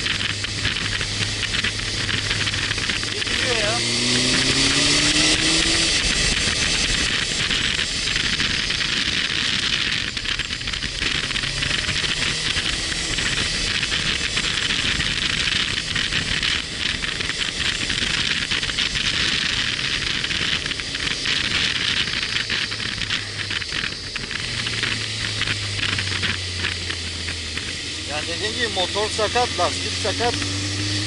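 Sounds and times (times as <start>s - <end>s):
motorcycle engine humming: 0.0s - 31.0s
wind rushing over microphone: 0.0s - 31.0s.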